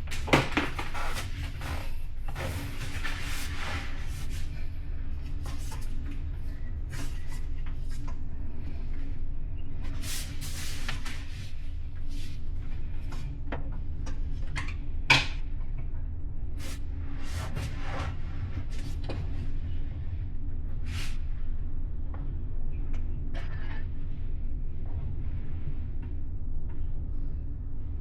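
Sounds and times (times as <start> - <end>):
low rumble of ferry: 1.2 - 28.0.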